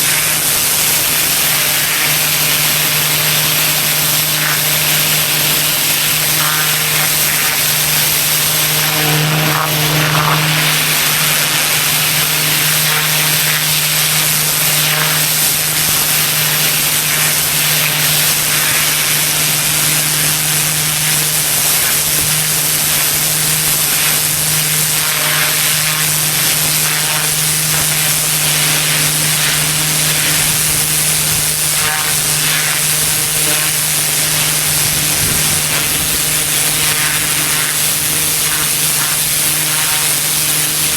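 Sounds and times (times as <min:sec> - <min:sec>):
high-pressure water spray hiss: 0:00.0 - 0:40.9
pressure washer engine drone: 0:00.0 - 0:40.9.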